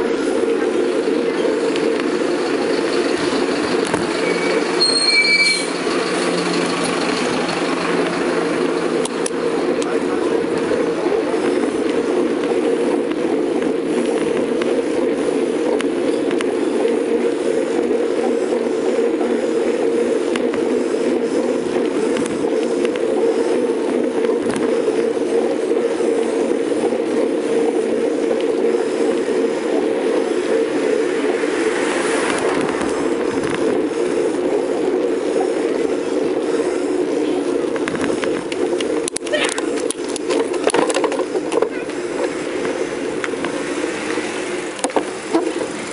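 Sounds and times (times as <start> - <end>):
bicycle drivetrain ticking: 0.0 - 45.9
bicycle tyres humming on road: 0.0 - 45.9
wind on microphone: 7.8 - 45.9.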